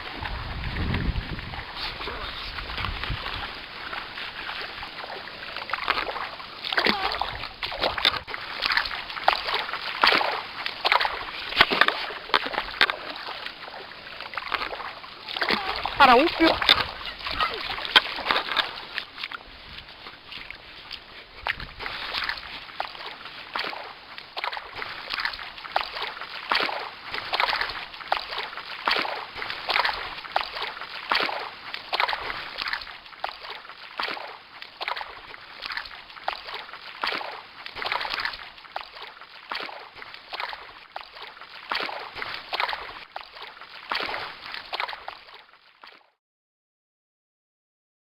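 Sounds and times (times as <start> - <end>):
water sloshing and splashing: 0.0 - 46.2.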